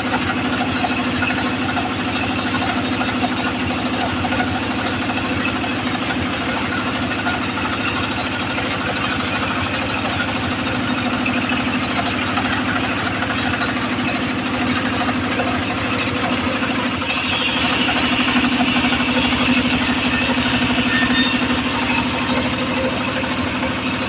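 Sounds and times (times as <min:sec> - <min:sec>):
circular saw engine running: 0:00.0 - 0:24.0.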